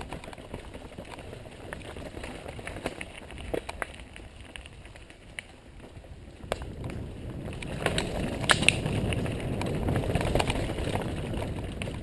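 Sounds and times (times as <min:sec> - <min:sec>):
bike tyres rumbling on dirt: 0:00.0 - 0:12.0.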